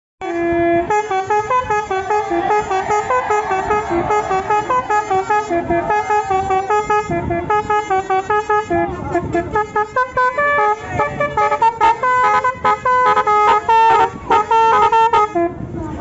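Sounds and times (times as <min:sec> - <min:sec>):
multi-tone bus horn playing a tune: 0:00.2 - 0:16.0.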